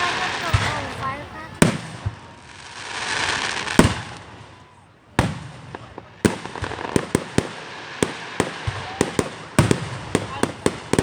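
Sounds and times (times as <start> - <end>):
crackling firework pops: 0.0 - 11.0
heavy firework bangs: 0.0 - 11.0.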